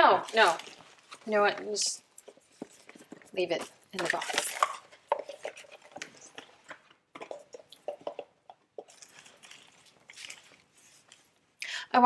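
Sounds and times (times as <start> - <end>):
gift box rustling and clicks: 0.2 - 11.3.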